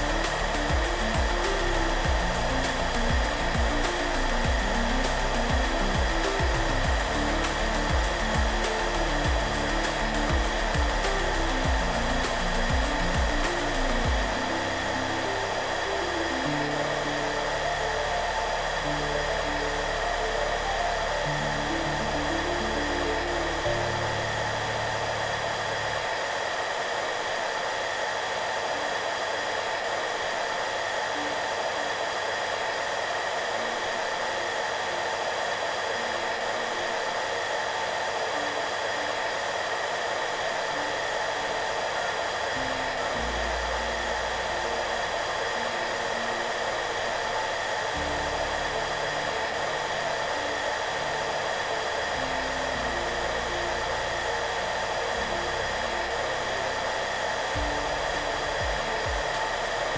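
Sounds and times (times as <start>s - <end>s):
soft low music notes: 0.0s - 26.9s, 37.9s - 59.9s
hair dryer whooshing: 0.0s - 59.9s.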